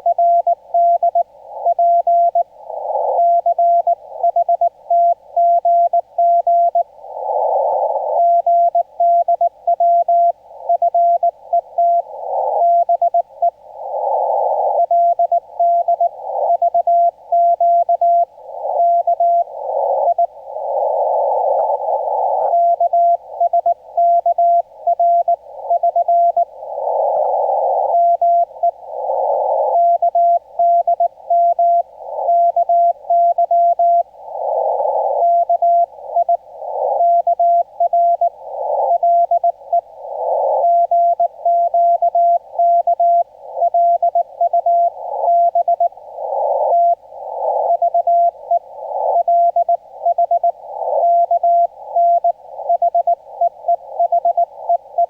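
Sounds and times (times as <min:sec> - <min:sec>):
receiver hiss: 0:00.0 - 0:55.0.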